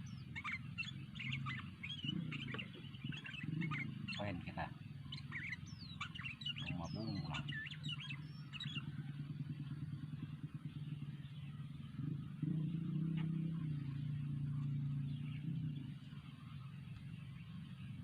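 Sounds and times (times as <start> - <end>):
faint bird chirp: 0.0 - 18.0
vehicle engine running: 0.0 - 18.0.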